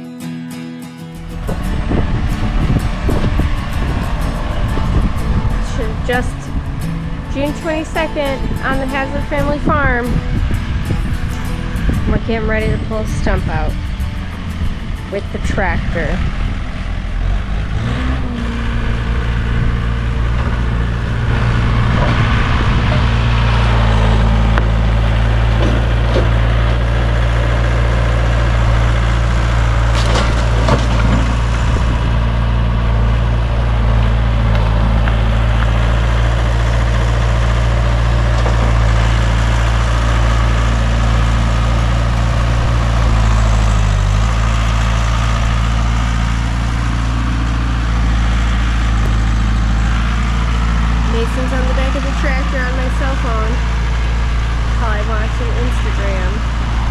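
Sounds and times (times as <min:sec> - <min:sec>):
tractor engine running: 0:01.0 - 0:56.9.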